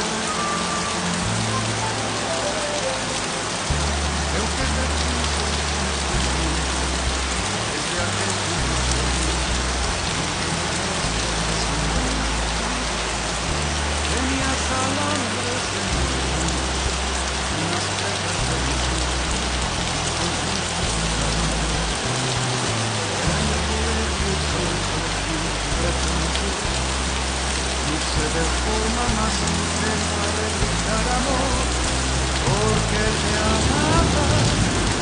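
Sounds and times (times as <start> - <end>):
low background music: 0.0 - 35.0
steady rain falling: 0.0 - 35.0.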